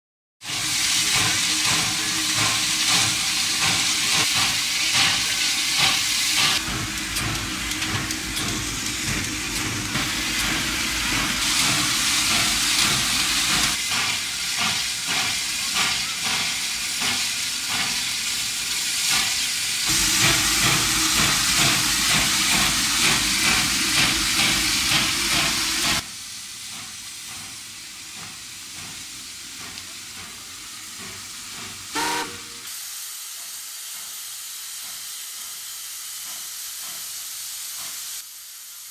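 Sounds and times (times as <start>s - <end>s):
steam locomotive hissing: 0.4s - 38.9s.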